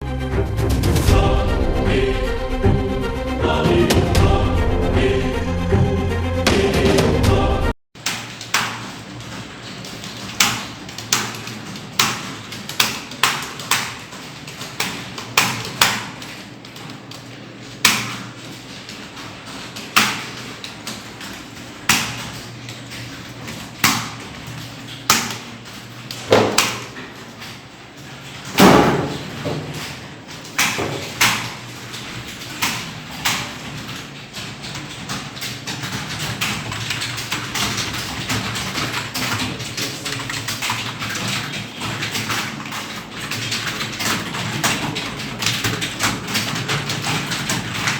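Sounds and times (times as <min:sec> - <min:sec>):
typing on computer keyboard: 0:08.0 - 0:47.9.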